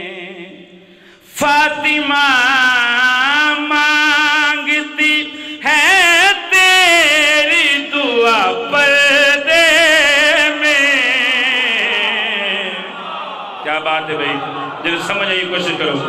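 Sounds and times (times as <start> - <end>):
man singing with vibrato: 0.0 - 13.1.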